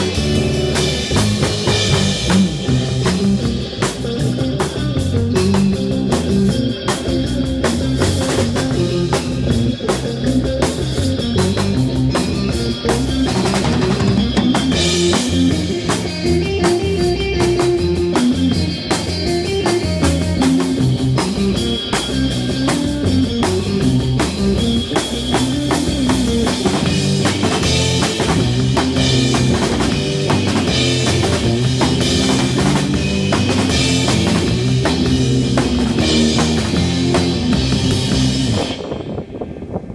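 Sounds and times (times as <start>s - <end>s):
drum kit: 0.0s - 39.3s
electric bass: 0.0s - 39.9s
electric guitar: 0.0s - 39.9s.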